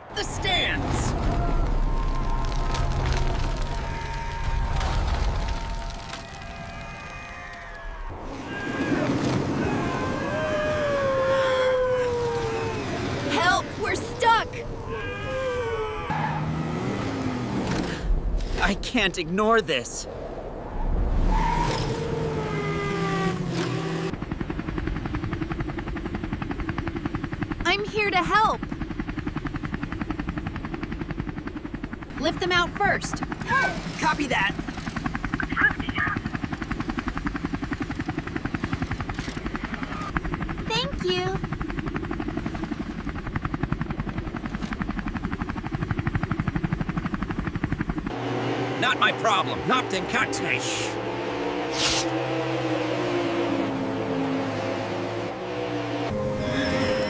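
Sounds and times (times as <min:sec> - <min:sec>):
helicopter rotor chopping: 0:00.0 - 0:19.8, 0:21.7 - 0:56.2.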